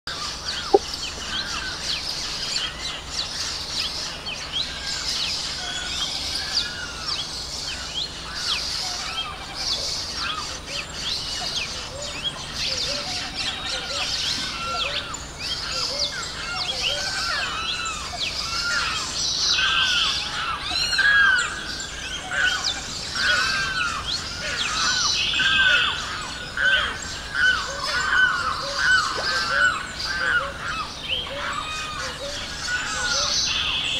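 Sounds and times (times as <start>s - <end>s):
chorus of wetland birds: 0.1s - 33.9s.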